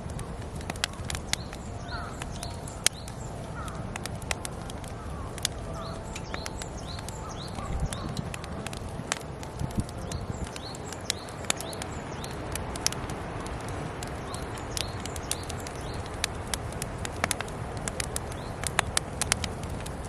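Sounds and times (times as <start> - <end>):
campfire crackling and popping: 0.0 - 20.0
small birds chirping: 0.0 - 20.0.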